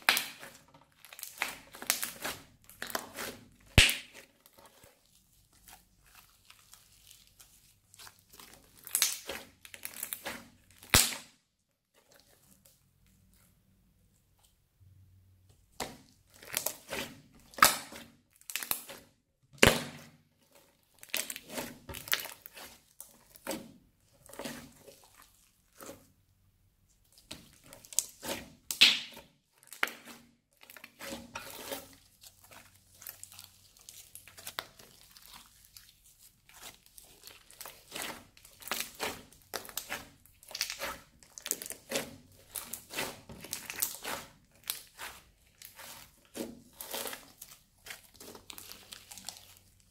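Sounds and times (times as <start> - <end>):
crunchy slime crackling and popping: 0.0 - 13.5, 15.8 - 26.1, 27.0 - 49.9.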